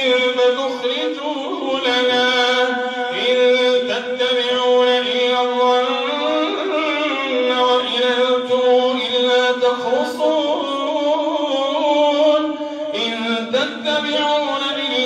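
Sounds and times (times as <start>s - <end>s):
man chanting through a microphone: 0.0s - 15.0s.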